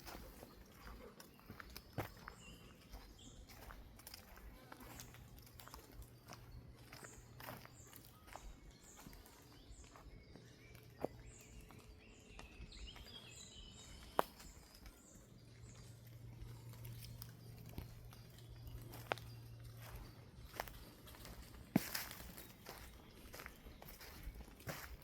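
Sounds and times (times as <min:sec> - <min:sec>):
birds chirping: 0:00.0 - 0:25.0
footsteps on forest floor: 0:00.0 - 0:25.0.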